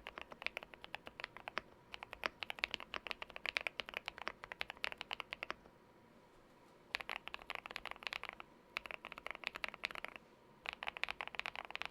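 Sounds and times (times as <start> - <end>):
mechanical keyboard typing: 0.0 - 5.6, 6.9 - 11.9.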